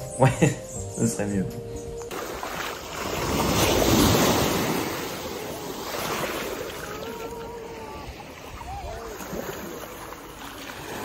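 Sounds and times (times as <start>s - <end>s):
small waves breaking on shore: 2.1s - 11.0s.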